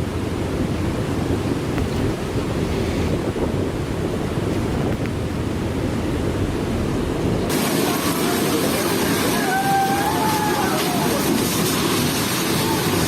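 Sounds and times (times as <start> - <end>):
waves breaking: 0.0 - 13.0
wind buffeting microphone: 0.0 - 13.0.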